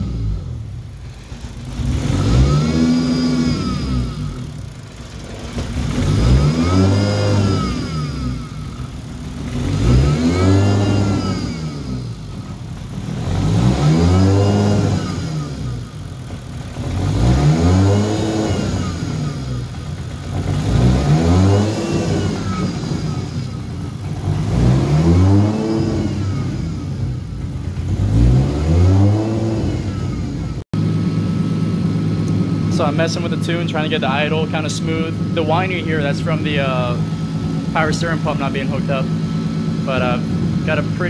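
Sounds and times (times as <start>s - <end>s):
car engine idling and revving: 0.0s - 41.0s.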